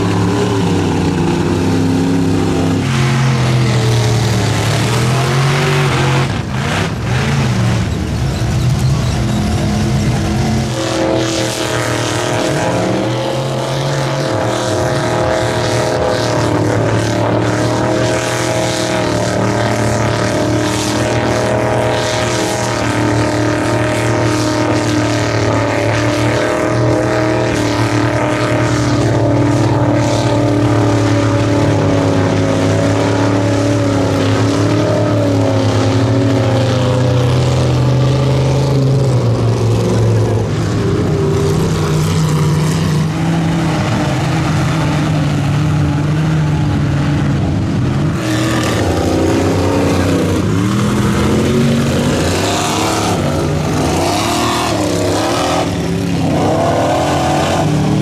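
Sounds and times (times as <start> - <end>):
tires throwing mud and water: 0.0 - 58.0
truck engines revving hard: 0.0 - 58.0.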